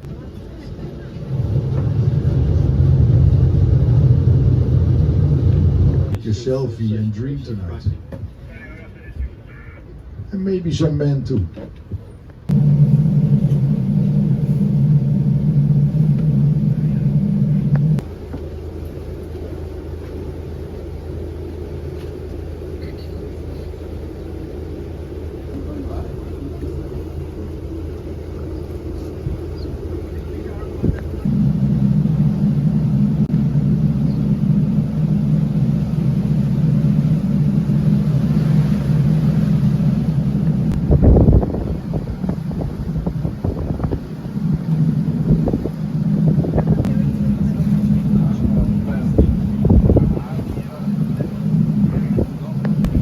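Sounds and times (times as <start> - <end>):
vehicle engine rumble: 0.0 - 53.0.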